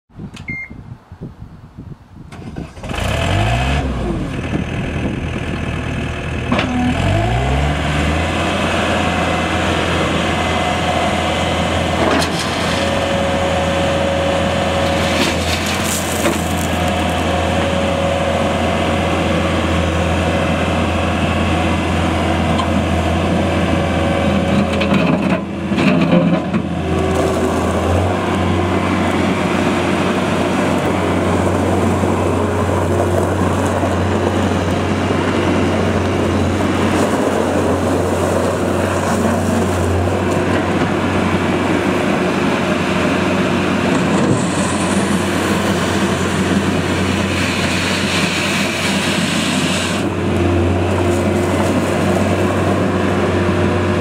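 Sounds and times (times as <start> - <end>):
diesel engine revving: 2.4 - 54.0
gravel dumping: 2.4 - 54.0.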